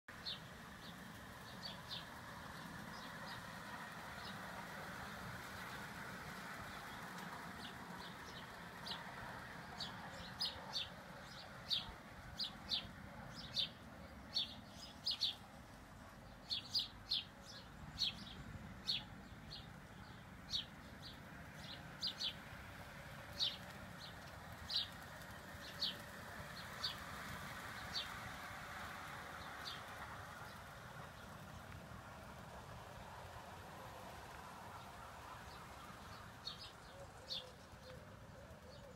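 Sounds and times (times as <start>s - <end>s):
model train running on track: 0.1s - 38.9s.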